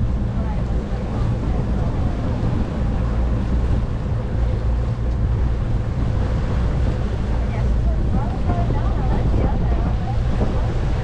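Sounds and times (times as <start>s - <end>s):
outboard engine running: 0.0s - 11.0s
water washing along hull: 0.0s - 11.0s
wind buffeting microphone: 0.0s - 11.0s.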